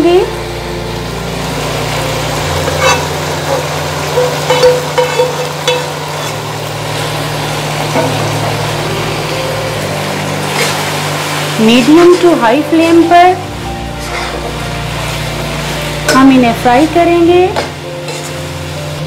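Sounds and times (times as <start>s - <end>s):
food sizzling in a wok: 0.0s - 19.0s.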